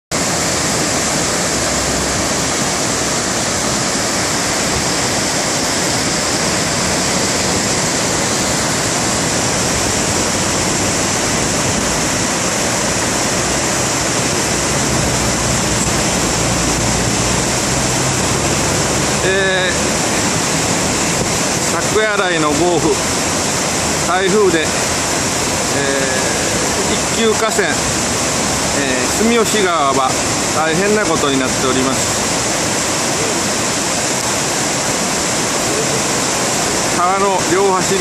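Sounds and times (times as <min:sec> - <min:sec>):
river rushing over weirs: 0:00.1 - 0:38.0.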